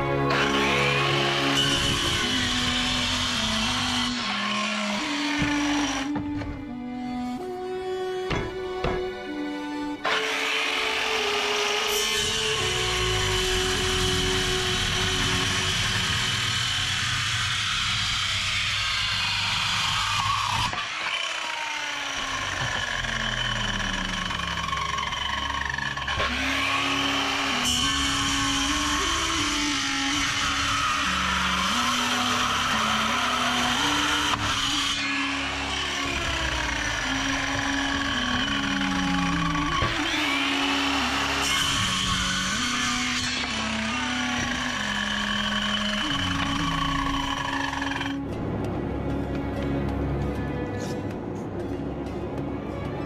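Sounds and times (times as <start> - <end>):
circular saw cutting wood: 0.0 - 48.3.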